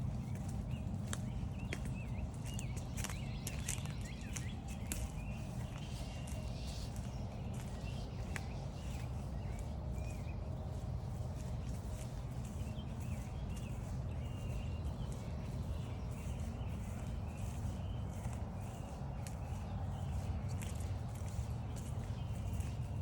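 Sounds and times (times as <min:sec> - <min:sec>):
birds singing: 0:00.0 - 0:23.0
footsteps swishing through grass: 0:00.0 - 0:23.0
low steady rumble: 0:00.0 - 0:23.0.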